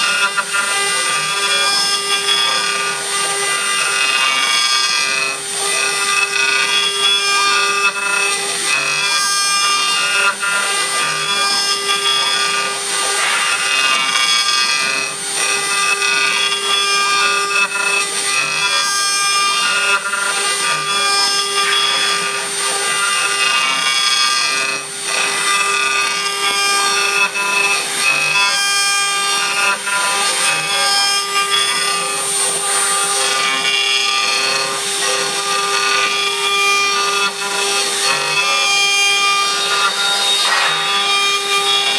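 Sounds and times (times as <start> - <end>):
bit cutting material: 0.0 - 41.9
router spindle whine: 0.0 - 41.9.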